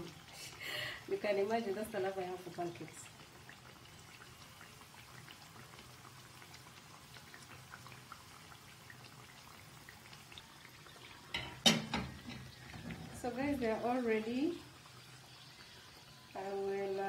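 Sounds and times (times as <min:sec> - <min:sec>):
pancakes sizzling in oil: 0:00.0 - 0:17.0.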